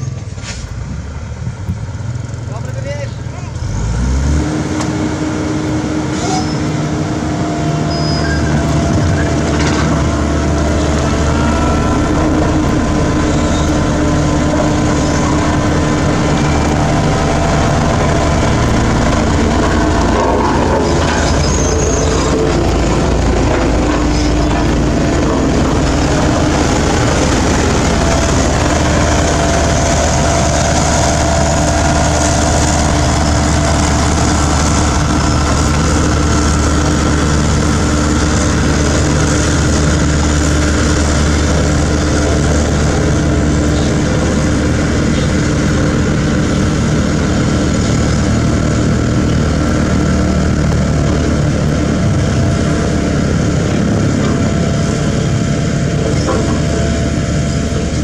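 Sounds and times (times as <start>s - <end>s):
road roller engine rumbling: 0.0s - 58.0s.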